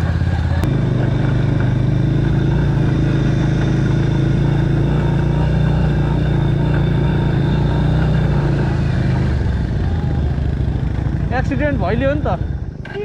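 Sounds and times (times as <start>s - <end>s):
road noise: 0.0s - 13.0s
vehicle engine droning: 0.0s - 13.0s.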